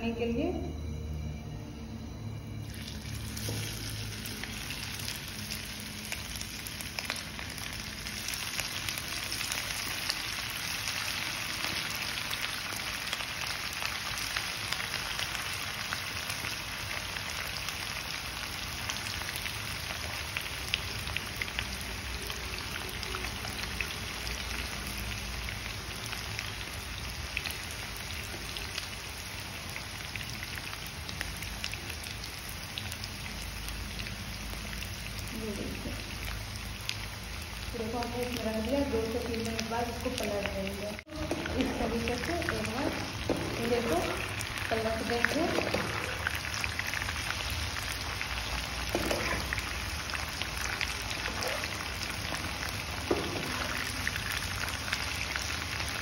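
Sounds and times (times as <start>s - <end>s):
chicken deep-frying in oil: 2.5s - 56.0s.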